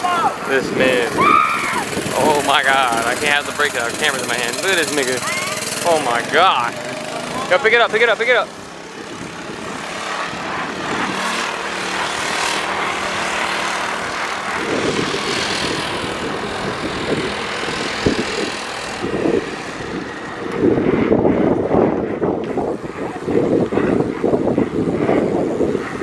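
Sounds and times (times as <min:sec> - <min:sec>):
go-kart engine droning: 0:00.0 - 0:26.0
wind buffeting microphone: 0:00.0 - 0:26.0.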